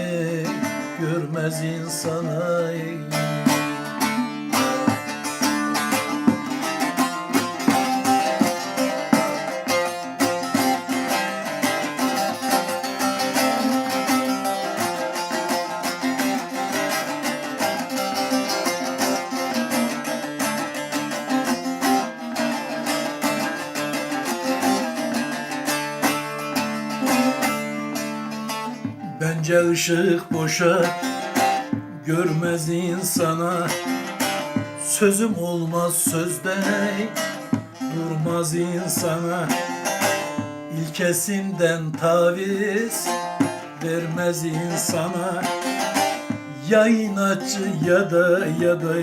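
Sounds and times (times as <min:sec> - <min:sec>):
plucked string instrument melody: 0:00.0 - 0:49.0.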